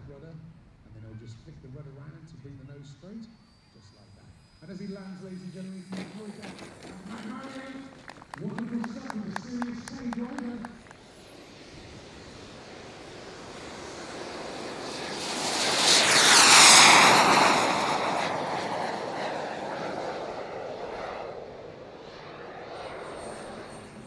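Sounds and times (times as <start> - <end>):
model jet turbine whine: 0.4 - 24.0.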